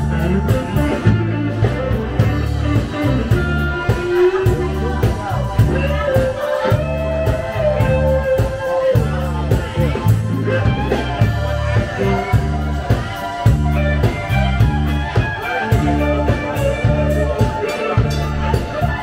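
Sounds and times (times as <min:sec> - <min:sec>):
electric guitar lead: 0:00.0 - 0:19.0
held bass notes: 0:00.0 - 0:19.0
steady drum beat: 0:00.0 - 0:19.0.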